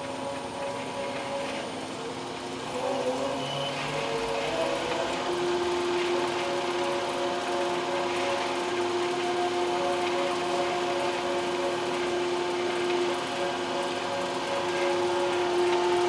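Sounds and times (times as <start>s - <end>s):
lathe motor hum: 0.0s - 16.0s.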